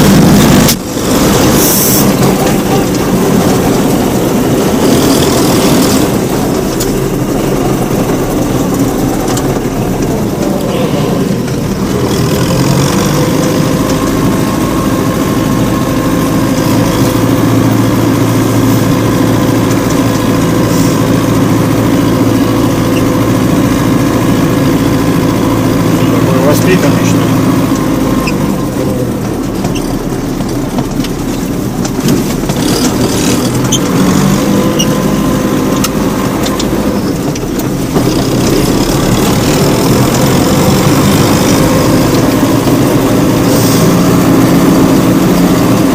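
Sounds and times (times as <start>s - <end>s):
tractor engine droning: 0.0s - 45.9s.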